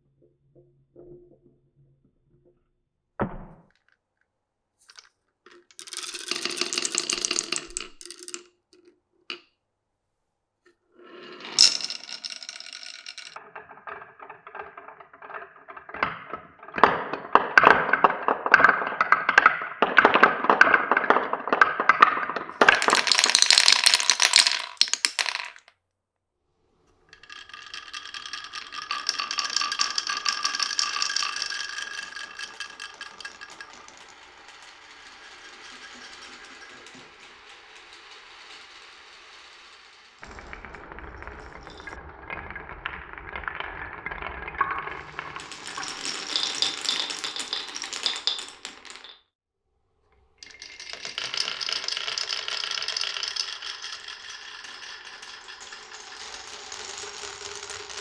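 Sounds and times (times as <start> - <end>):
marbles clicking and clacking: 4.8 - 9.4, 11.2 - 25.7, 27.1 - 49.2, 50.4 - 58.0
marbles rolling on wooden track: 4.8 - 9.4, 11.0 - 25.7, 27.1 - 49.3, 50.4 - 58.0.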